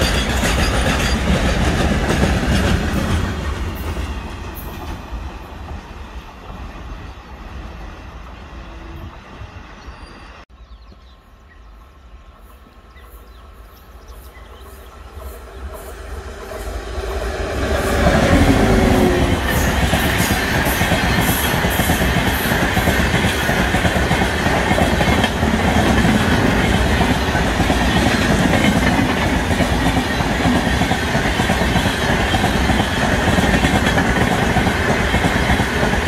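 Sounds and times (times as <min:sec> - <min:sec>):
passenger train passing: 0:00.0 - 0:10.5, 0:11.2 - 0:36.0
freight train wheels rumbling: 0:00.0 - 0:11.0, 0:11.7 - 0:36.0.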